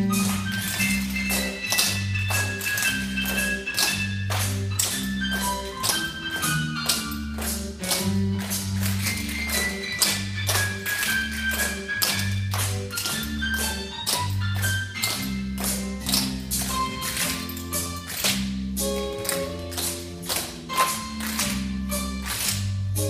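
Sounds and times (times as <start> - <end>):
instrumental dance music: 0.0 - 23.0.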